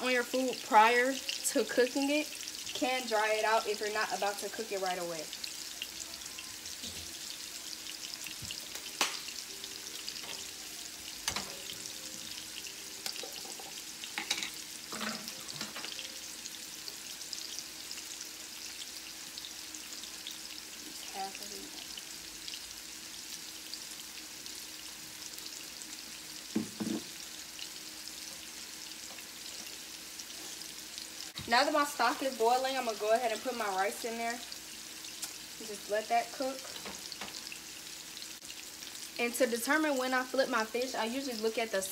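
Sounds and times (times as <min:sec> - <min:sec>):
fish sizzling in oil: 0:00.0 - 0:41.9.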